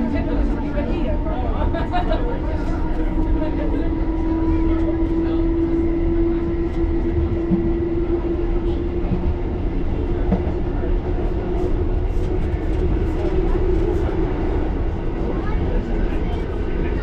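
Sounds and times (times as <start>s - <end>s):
train low rumble: 0.0s - 17.0s
train whine: 0.0s - 17.0s.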